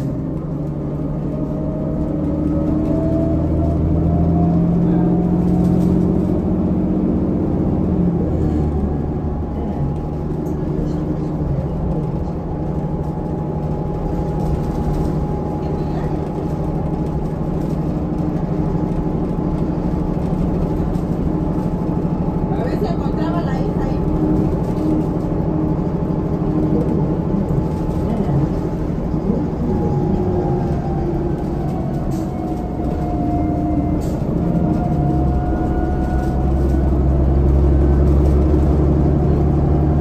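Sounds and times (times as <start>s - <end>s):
bus diesel engine pulling: 0.0s - 40.0s.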